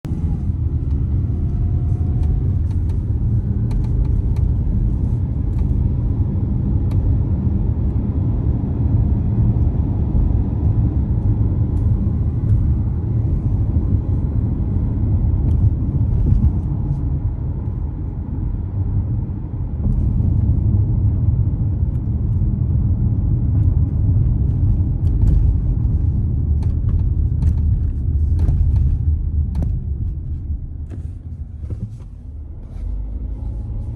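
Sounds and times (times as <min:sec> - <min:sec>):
car driving low rumble: 0:00.0 - 0:33.9.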